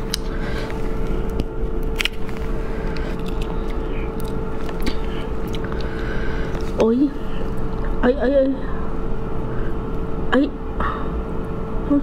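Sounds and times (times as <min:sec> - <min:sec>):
constant hum: 0:00.0 - 0:12.0.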